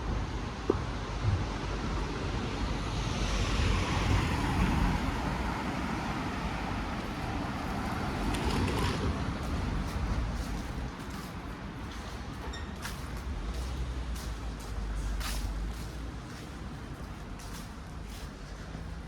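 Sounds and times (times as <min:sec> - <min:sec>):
cars driving past: 0:01.1 - 0:19.0.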